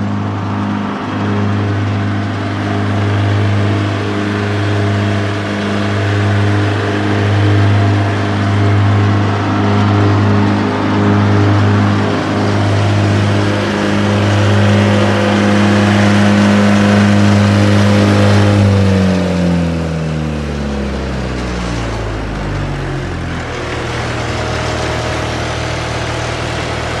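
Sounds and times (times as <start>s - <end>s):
wood chipper engine running: 0.0s - 27.0s.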